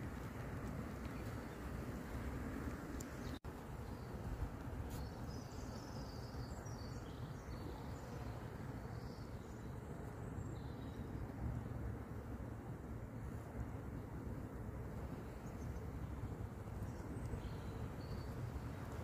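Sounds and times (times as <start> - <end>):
low rumble with soft hiss: 0.0 - 19.0.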